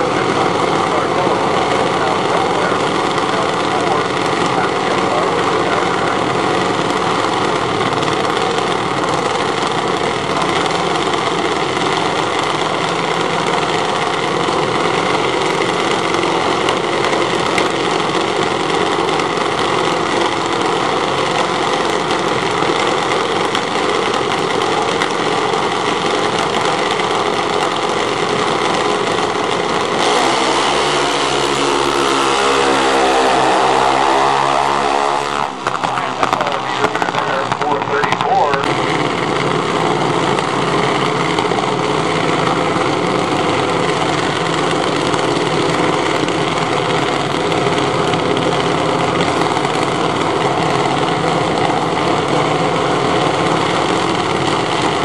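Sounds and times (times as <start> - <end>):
dragster engines accelerating: 0.0 - 55.0.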